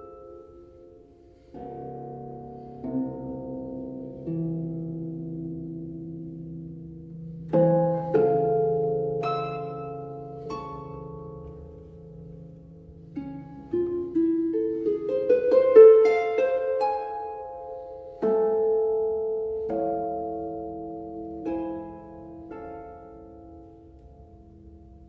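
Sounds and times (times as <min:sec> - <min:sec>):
plucked string music: 0:00.0 - 0:25.0.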